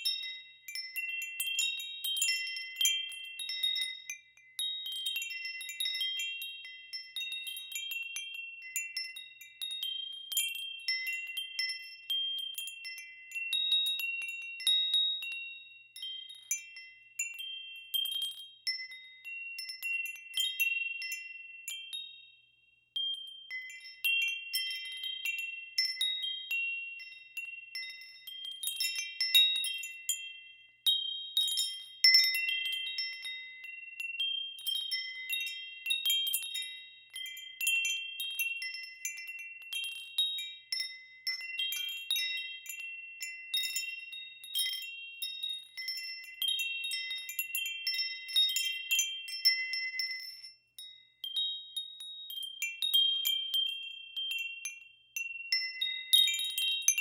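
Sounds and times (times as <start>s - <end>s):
metal wind chimes ringing: 0.0s - 57.0s.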